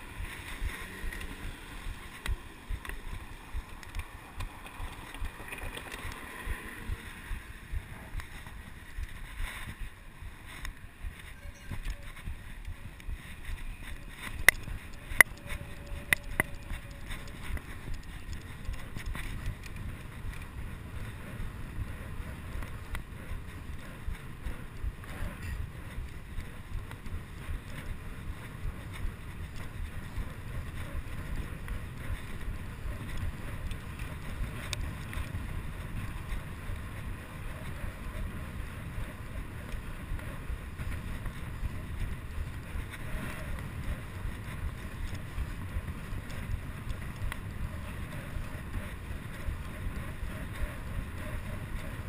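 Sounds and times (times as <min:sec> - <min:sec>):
bicycle rolling noise: 0:00.0 - 0:52.0
wind buffeting microphone: 0:00.0 - 0:52.0.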